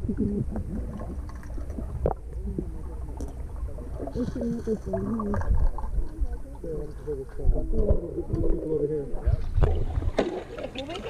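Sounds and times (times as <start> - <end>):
pool water rumbling: 0.0 - 11.0.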